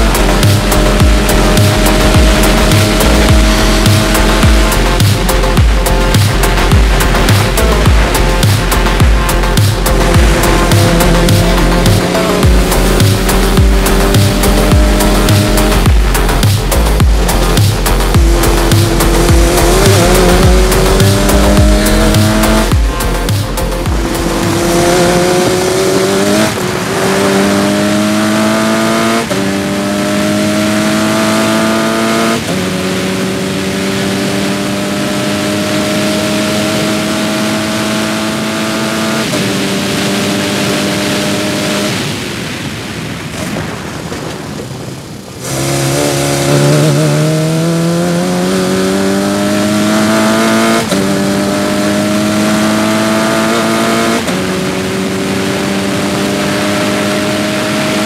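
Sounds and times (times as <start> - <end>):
race car engine accelerating: 0.0 - 42.0, 45.4 - 58.0.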